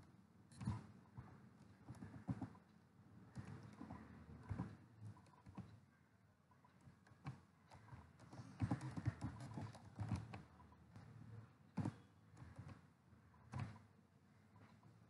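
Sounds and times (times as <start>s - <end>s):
faint typing on keyboard: 0.5s - 5.9s, 6.5s - 13.9s.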